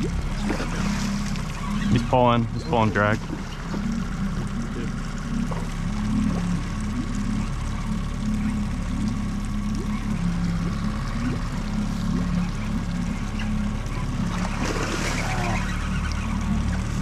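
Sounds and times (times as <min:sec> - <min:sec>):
fish thrashing in water: 0:00.0 - 0:17.0
trolling motor running: 0:00.0 - 0:17.0
water trickling and splashing: 0:00.0 - 0:17.0.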